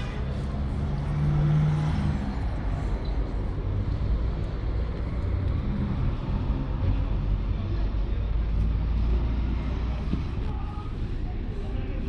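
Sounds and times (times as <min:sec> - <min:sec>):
road traffic rumble: 0:00.0 - 0:12.0
vehicle engine hum: 0:00.0 - 0:12.0.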